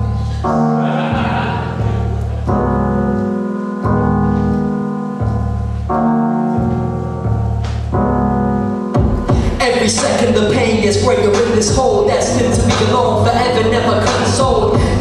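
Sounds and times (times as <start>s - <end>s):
deep bass line: 0.0s - 15.0s
sustained keyboard chords: 0.0s - 15.0s.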